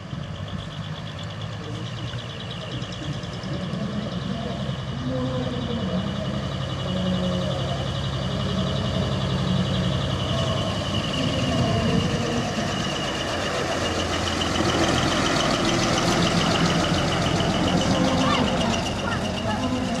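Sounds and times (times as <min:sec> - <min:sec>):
diesel truck engine: 0:00.0 - 0:20.0.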